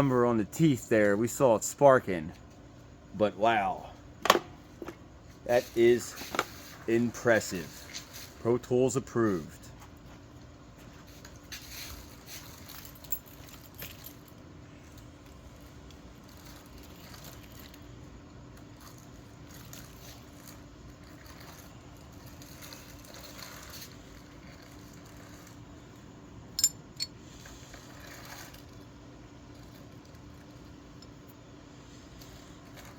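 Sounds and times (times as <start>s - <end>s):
faint steady hum: 0.0s - 32.9s
small handling noises: 4.0s - 32.9s.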